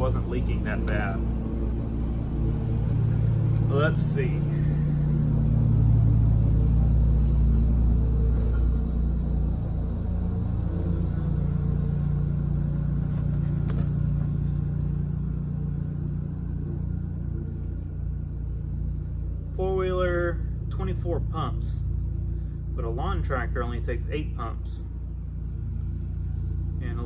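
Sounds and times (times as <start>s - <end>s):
low motor drone: 0.0s - 27.0s.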